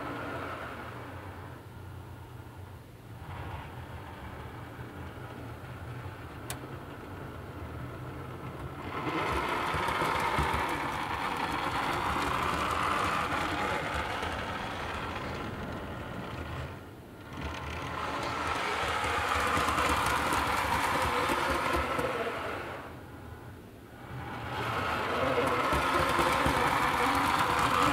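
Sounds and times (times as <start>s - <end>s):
model train clattering: 3.4s - 23.0s, 24.0s - 27.9s.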